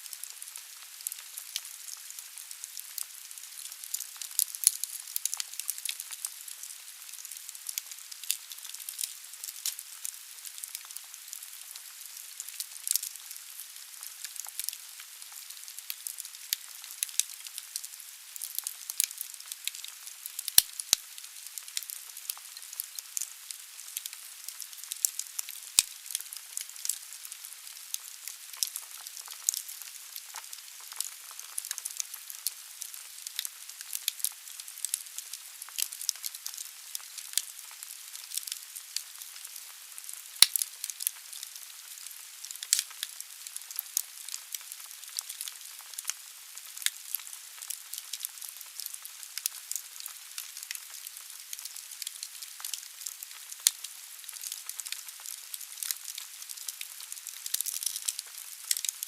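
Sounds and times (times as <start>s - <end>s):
wood fire crackling and popping: 0.2s - 27.1s, 27.7s - 59.0s.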